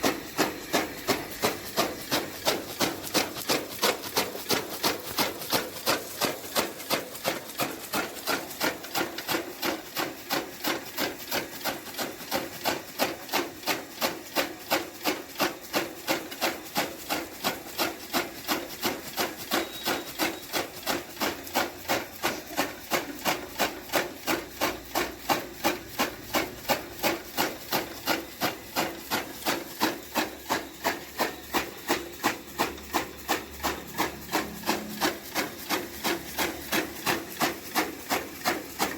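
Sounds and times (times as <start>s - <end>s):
chaff cutter chopping fodder: 0.0s - 38.9s.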